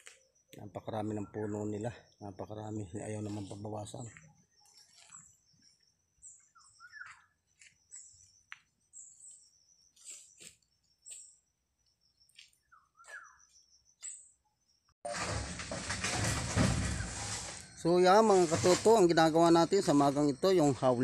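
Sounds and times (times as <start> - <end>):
birds chirping: 0.0 - 14.9, 17.0 - 21.0.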